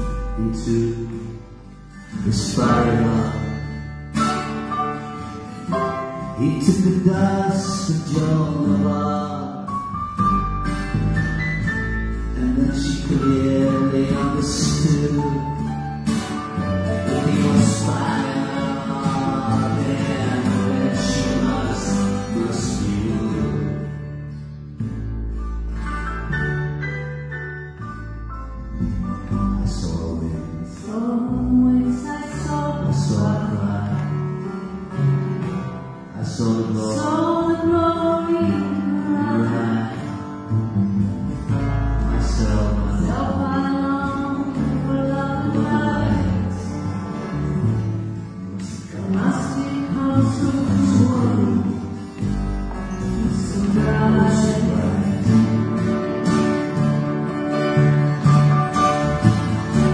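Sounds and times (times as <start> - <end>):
acoustic band playing slow song: 0.0 - 59.9
piano: 0.0 - 59.9
cello: 10.2 - 59.9.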